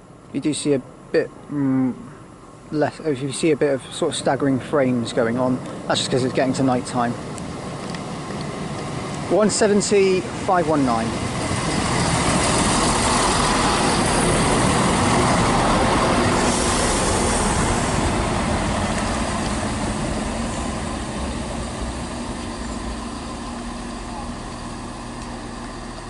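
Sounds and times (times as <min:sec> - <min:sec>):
diesel train engines: 0:00.0 - 0:26.0
train wheels on rails: 0:05.1 - 0:26.0.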